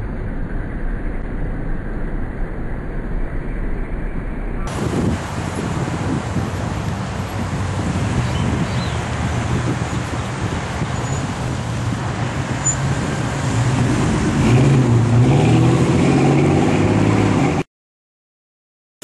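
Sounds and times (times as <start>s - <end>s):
engine humming: 0.0s - 17.6s
wind-like rushing: 0.0s - 17.6s.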